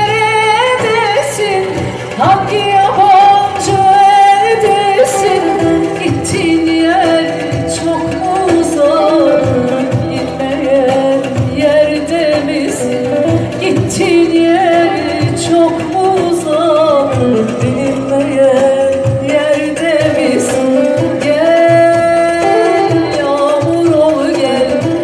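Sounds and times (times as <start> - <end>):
woman singing into a microphone: 0.0 - 25.0
percussion hits: 0.8 - 25.0
electronic keyboard: 2.2 - 25.0.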